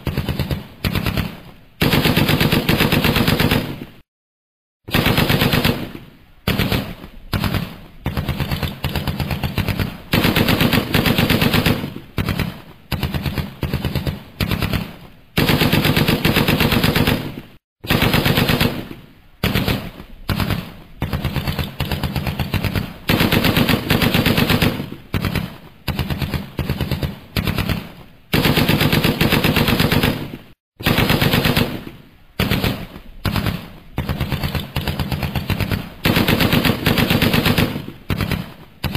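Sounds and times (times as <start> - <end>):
machine-gun fire bursts: 0.0 - 4.0, 4.9 - 38.9.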